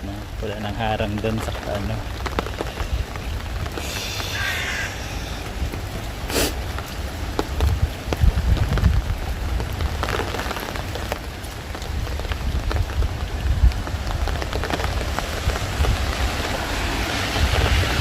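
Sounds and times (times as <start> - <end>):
low wind rumble on microphone: 0.0 - 18.0
raindrops ticking close by: 0.0 - 18.0
steady rain falling: 0.0 - 18.0.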